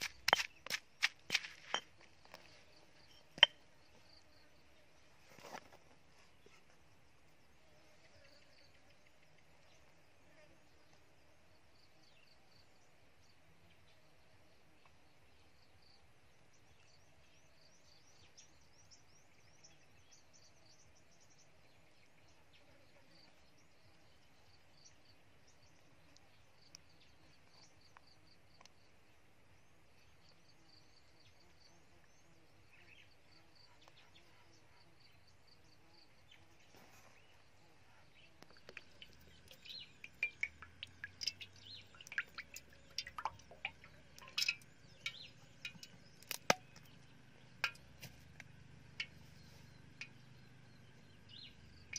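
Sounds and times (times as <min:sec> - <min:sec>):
small birds chirping: 0:00.0 - 0:11.0, 0:14.8 - 0:51.9.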